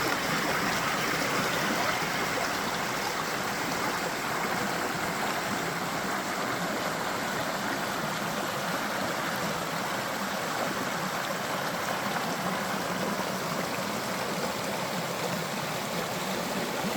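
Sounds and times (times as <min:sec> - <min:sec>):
creek water running over rocks: 0:00.0 - 0:16.9.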